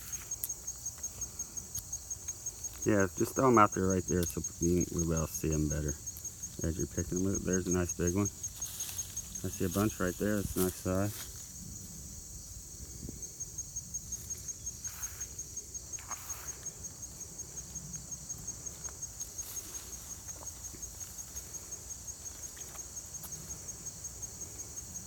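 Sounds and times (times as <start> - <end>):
faint rustles: 0.0 - 12.1, 12.9 - 25.0
insect chirping: 0.0 - 25.0.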